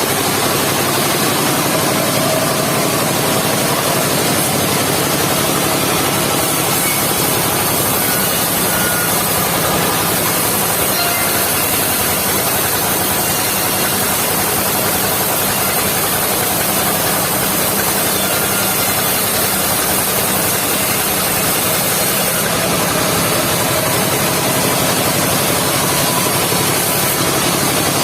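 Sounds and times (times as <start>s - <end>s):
sawmill engine running: 0.0s - 28.0s.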